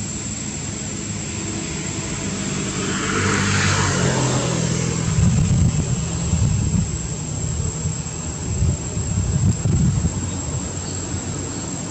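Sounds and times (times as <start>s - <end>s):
engine passing by: 0.0s - 11.9s.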